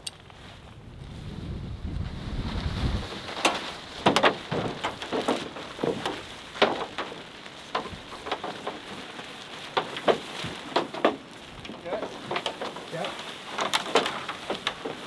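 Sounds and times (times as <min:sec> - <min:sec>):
nylon fabric rustling: 0:00.0 - 0:15.0.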